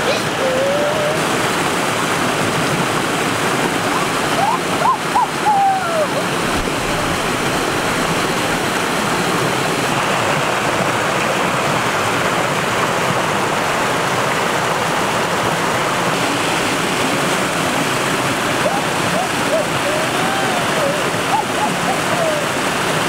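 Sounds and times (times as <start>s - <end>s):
stream rushing over cascades: 0.0s - 23.0s.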